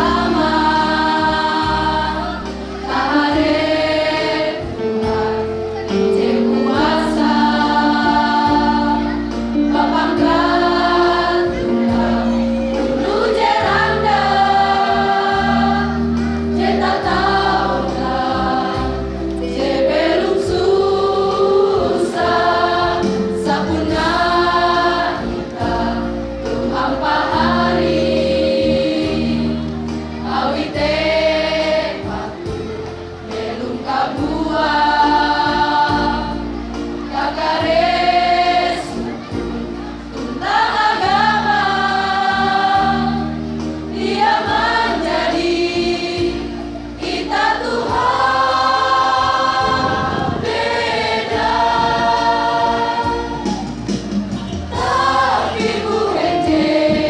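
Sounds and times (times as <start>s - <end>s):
choir singing in parts: 0.0s - 57.0s.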